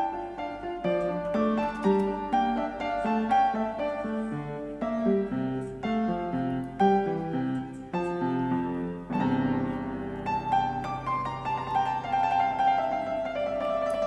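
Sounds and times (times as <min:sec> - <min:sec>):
piano melody with chords: 0:00.0 - 0:14.0.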